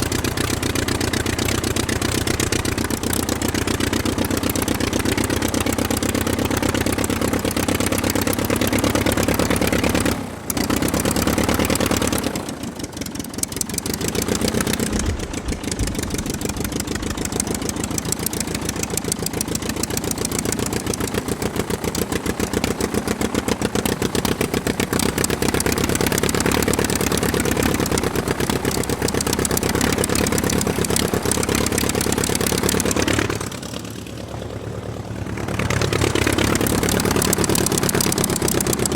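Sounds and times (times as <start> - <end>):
aircraft piston engine running: 0.0 - 38.9.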